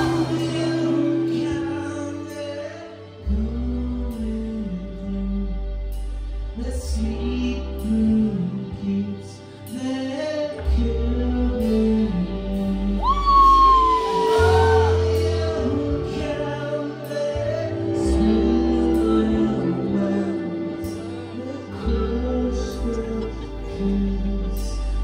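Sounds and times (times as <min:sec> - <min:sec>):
rock band playing live: 0:00.0 - 0:03.4, 0:07.8 - 0:25.0
man singing into a microphone: 0:00.0 - 0:05.8, 0:06.6 - 0:25.0.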